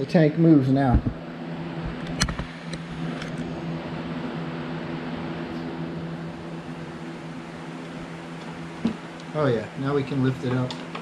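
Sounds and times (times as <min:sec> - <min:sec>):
machine hum with hiss: 0:00.0 - 0:11.0.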